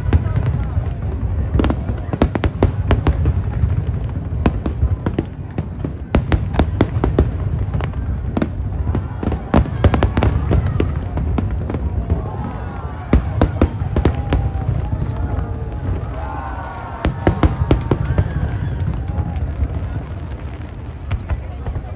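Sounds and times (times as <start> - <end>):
fireworks cracks and bangs: 0.0 - 21.9.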